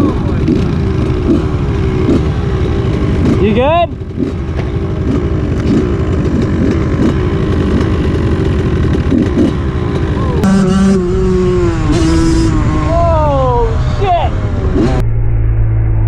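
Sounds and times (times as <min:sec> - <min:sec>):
atv engines revving: 0:00.0 - 0:15.0
high engine whine: 0:00.0 - 0:16.0.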